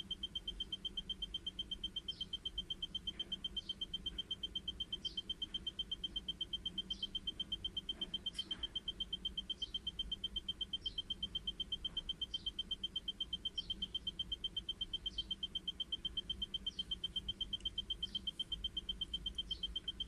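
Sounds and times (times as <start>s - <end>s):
rapid high electronic beeps: 0.0s - 20.0s
faint rising chirp: 0.2s - 20.0s.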